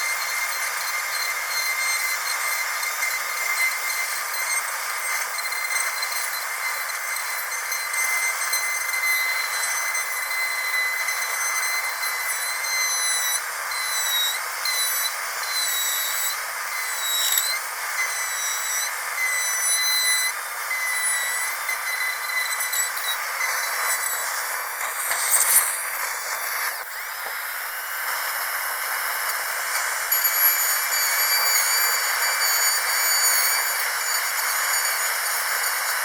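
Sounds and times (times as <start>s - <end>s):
dentist's drill whining: 0.0s - 36.0s.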